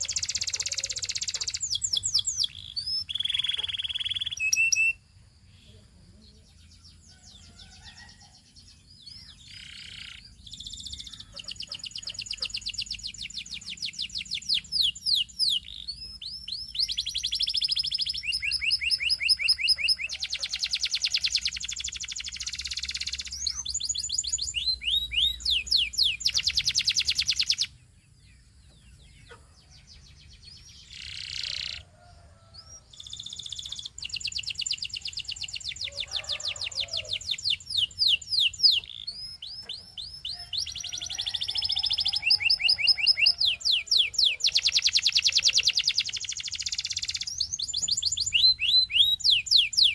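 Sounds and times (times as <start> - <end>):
canary singing rapid trills: 0.0 - 5.6, 7.0 - 49.9.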